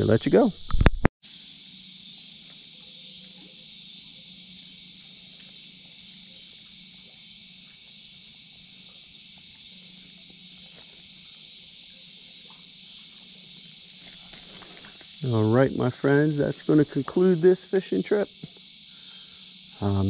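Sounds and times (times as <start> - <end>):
crickets and insects chorus: 0.0 - 20.0.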